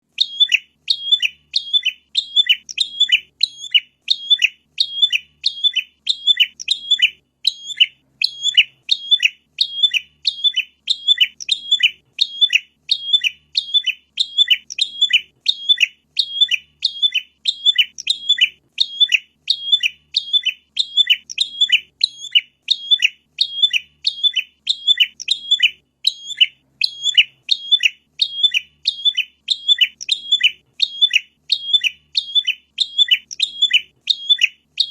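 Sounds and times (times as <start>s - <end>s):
bird chirping sharply: 0.0s - 34.9s.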